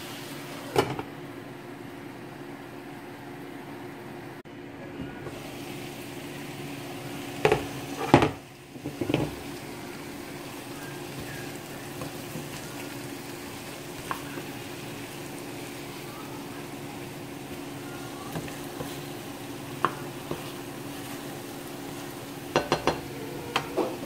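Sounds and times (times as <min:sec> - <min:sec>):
chicken wings sizzling in a pan: 0:00.0 - 0:01.0, 0:05.1 - 0:24.0.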